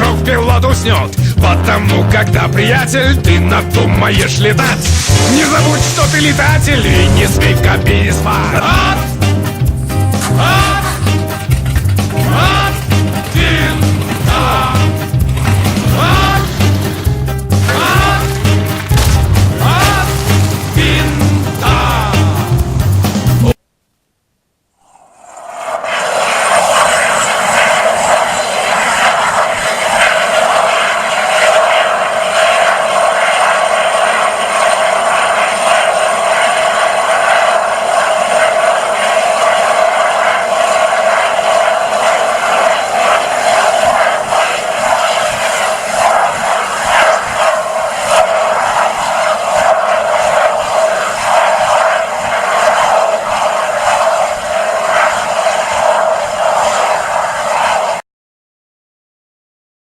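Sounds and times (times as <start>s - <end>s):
gas cylinder venting hissing roar: 0.0s - 23.5s, 25.5s - 58.0s.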